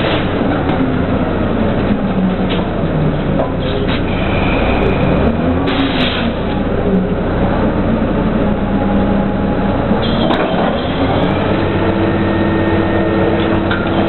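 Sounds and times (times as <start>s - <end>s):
drilling rig machinery drone: 0.0s - 14.0s.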